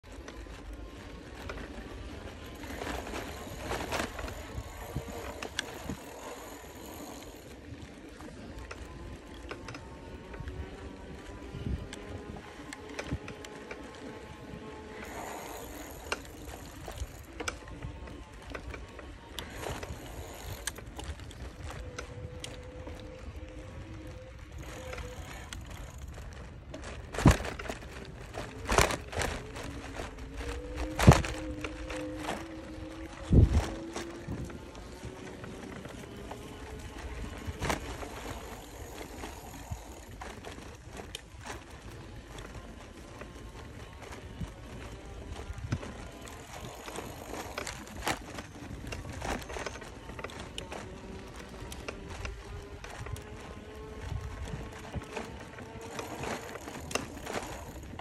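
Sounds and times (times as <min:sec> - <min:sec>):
bicycle tyres rumbling: 0:00.0 - 0:58.0
bike clicks and rattles: 0:00.0 - 0:58.0
wind on microphone: 0:00.5 - 0:58.0.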